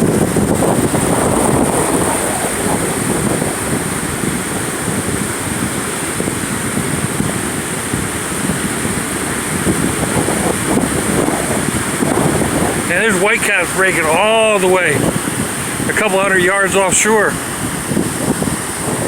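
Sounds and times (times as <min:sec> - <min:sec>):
stormy ocean surf: 0:00.0 - 0:19.0
wind buffeting microphone: 0:00.0 - 0:19.0.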